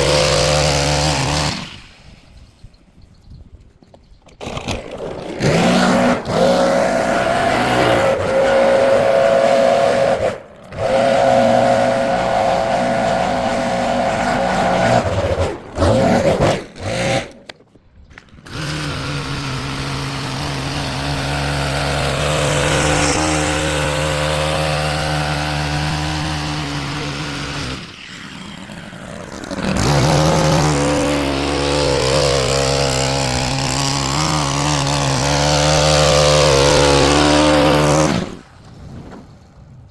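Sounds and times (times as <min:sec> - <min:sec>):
small engine lawn equipment running: 0:00.0 - 0:02.3, 0:04.3 - 0:39.9.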